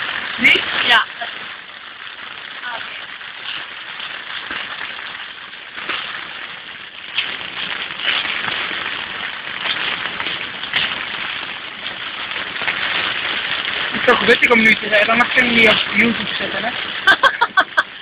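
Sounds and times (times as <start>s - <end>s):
heavy rain on a car roof: 0.0s - 18.0s.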